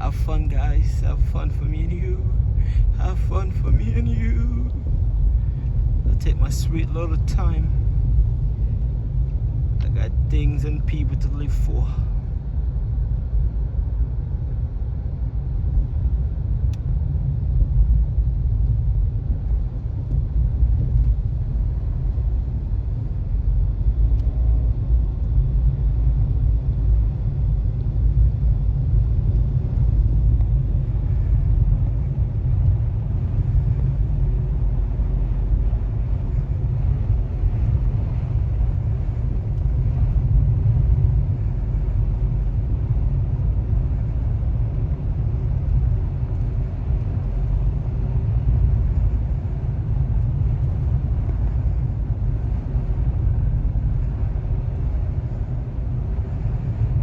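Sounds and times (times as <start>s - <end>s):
car tyre and engine noise: 0.0s - 57.0s.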